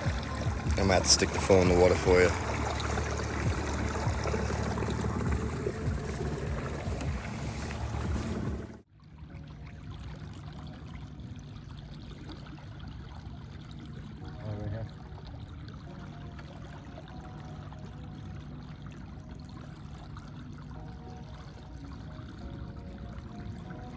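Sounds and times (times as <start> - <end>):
muffled underwater hum: 0.0 - 23.9
water rushing and splashing: 0.0 - 23.9.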